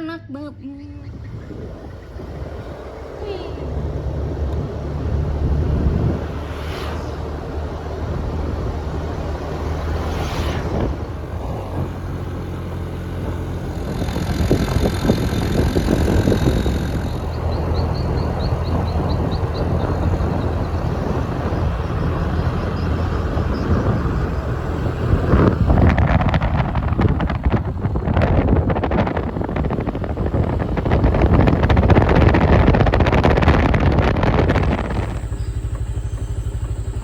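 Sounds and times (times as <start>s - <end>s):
road and wind noise: 0.0s - 37.0s
vehicle engine running: 0.7s - 37.0s.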